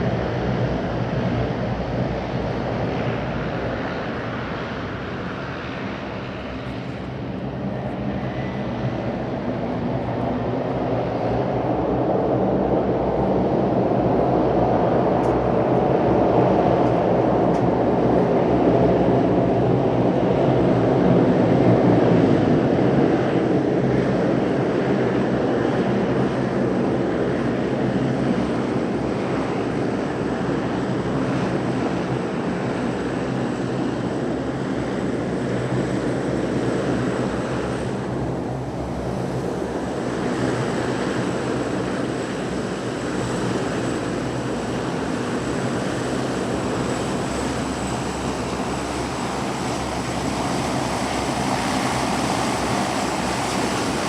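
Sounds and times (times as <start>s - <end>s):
turboprop aircraft engine drone: 0.0s - 54.0s.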